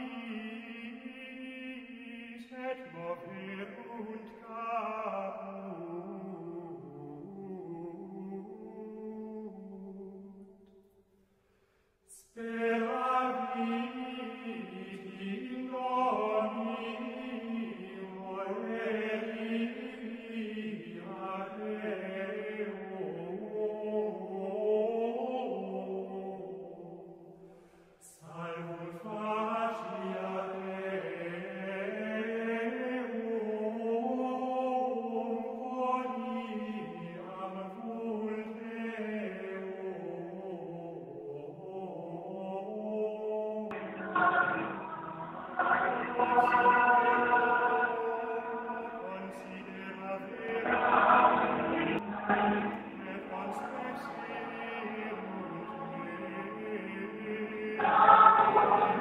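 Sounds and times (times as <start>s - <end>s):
slow sung chant: 0.0s - 11.0s, 12.0s - 59.0s.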